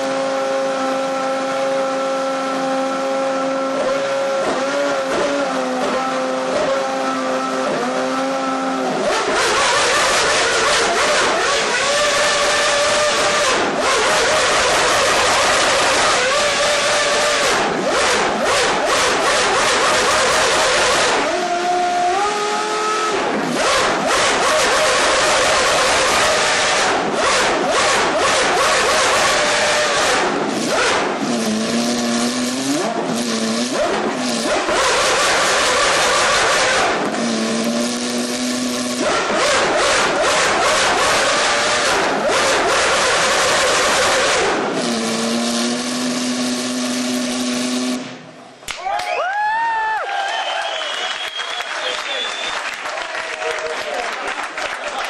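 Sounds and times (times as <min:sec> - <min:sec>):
race car engine at high revs: 0:00.0 - 0:48.6.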